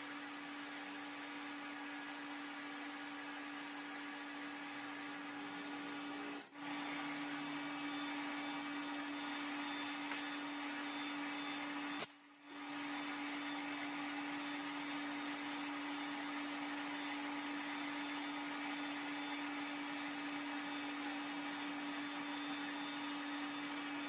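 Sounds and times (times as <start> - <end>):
machine tool motor humming: 0.0 - 24.0.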